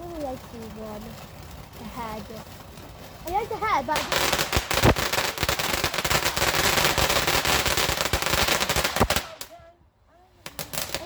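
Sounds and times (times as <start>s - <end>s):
firework bangs: 0.0s - 11.0s
firework crackling: 0.0s - 11.0s.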